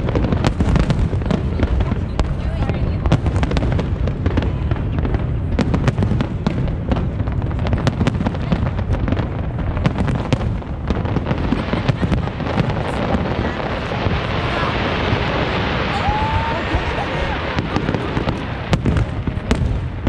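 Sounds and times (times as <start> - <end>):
fireworks popping and crackling: 0.0 - 20.0
low fireworks booming: 0.0 - 20.0.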